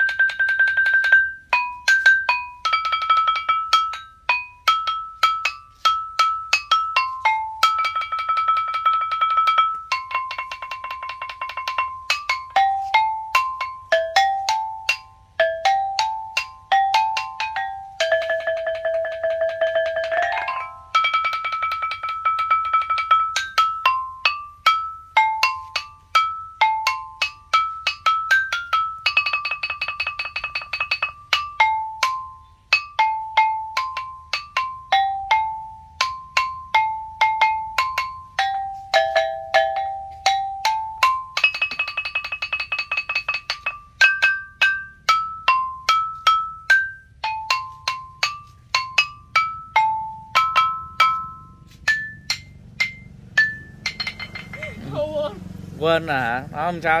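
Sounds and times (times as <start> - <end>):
stone lithophone melody: 0.0 - 57.0.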